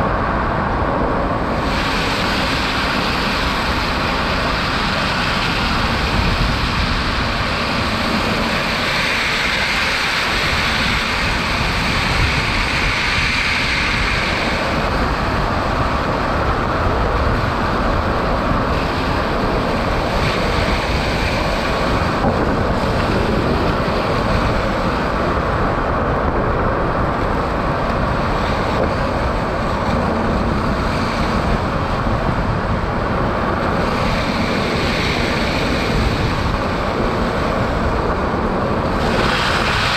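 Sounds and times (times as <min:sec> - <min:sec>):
tyre and wind road noise: 0:00.0 - 0:39.9.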